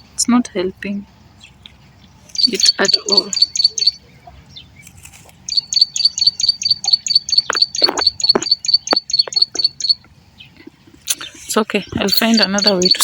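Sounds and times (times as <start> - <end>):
bird chirping rapidly: 1.0 - 13.0.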